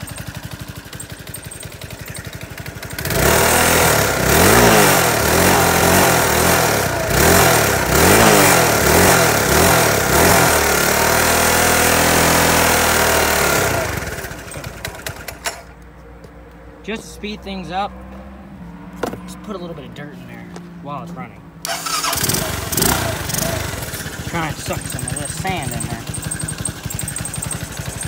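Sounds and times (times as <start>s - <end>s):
scooter engine idling and revving: 0.0s - 28.0s.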